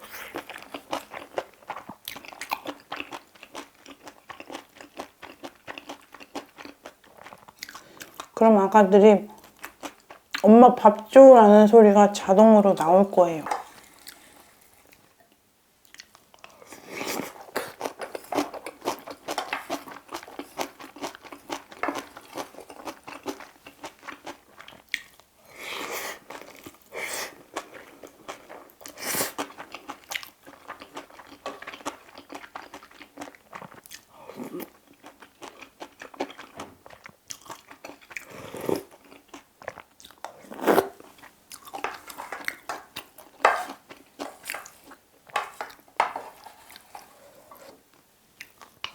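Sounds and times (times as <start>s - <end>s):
chewing and crunching food: 0.0s - 8.4s, 9.3s - 10.5s, 13.6s - 48.9s.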